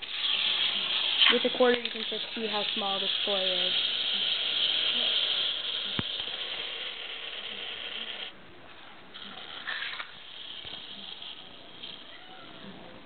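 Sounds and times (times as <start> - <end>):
clockwork toy motor whirring: 0.0 - 8.4, 9.1 - 12.8.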